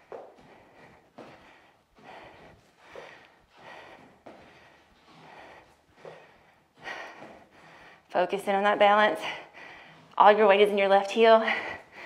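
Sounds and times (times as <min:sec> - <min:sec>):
woman breathing hard: 0:00.0 - 0:08.1, 0:09.1 - 0:10.2, 0:11.4 - 0:12.0.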